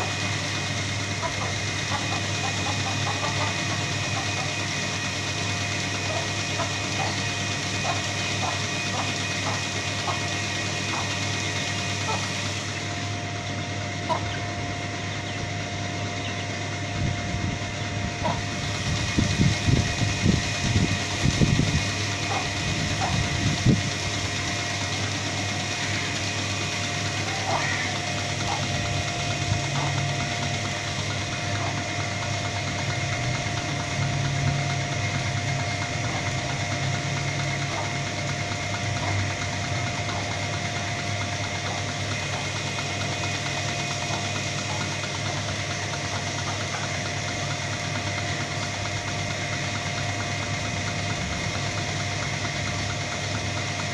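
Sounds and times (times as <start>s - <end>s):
machine drone with whine: 0.0s - 53.9s.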